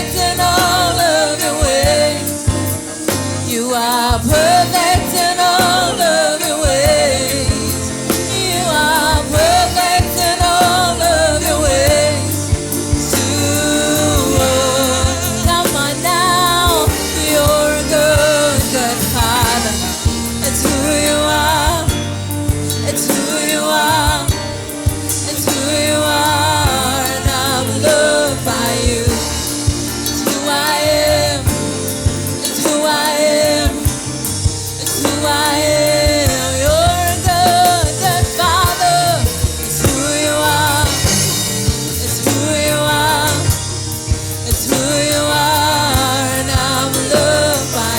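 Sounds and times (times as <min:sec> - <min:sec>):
band with drums: 0:00.0 - 0:47.9
lead singer with backing vocals: 0:00.0 - 0:47.9.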